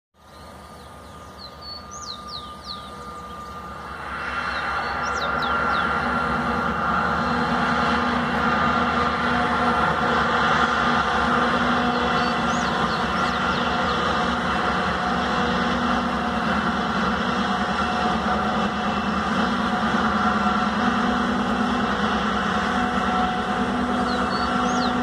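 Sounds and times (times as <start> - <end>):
diesel locomotive engines humming: 0.2 - 25.0.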